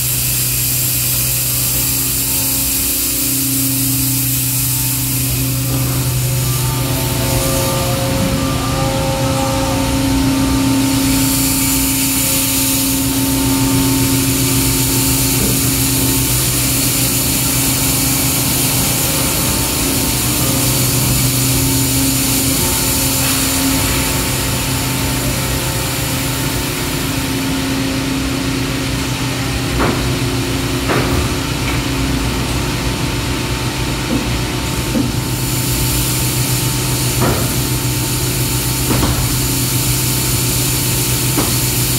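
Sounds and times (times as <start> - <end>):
injection molding machine humming: 0.0 - 41.9.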